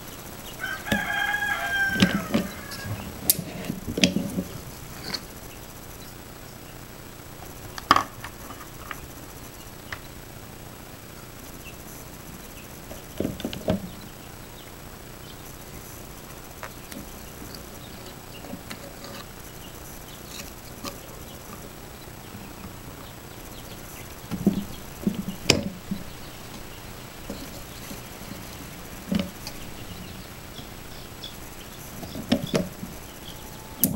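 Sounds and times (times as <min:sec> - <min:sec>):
low steady hiss: 0:00.0 - 0:33.9.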